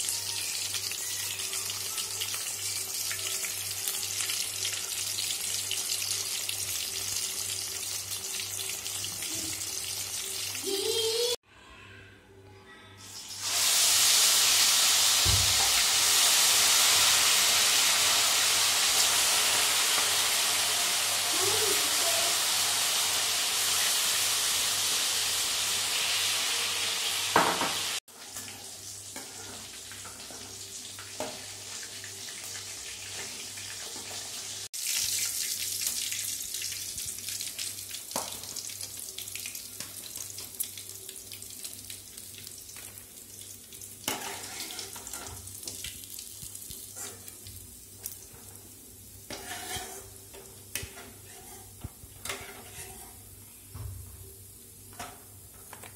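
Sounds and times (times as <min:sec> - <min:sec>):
chicken deep-frying in oil: 0:00.0 - 0:11.4, 0:13.0 - 0:55.9.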